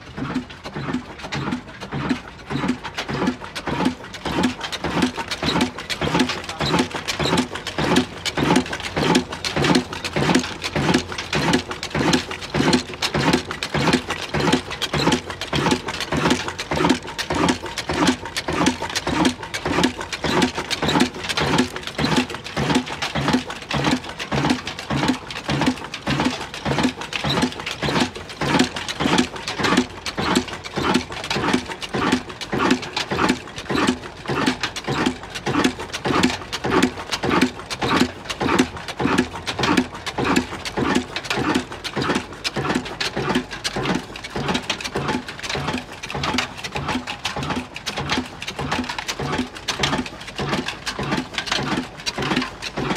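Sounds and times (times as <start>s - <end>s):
diesel engine running slowly: 0.0s - 52.9s
engine exhaust beats: 0.0s - 52.9s.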